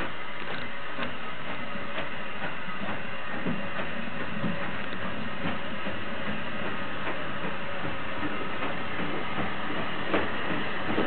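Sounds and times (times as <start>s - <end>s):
steam locomotive approaching: 0.0s - 11.0s.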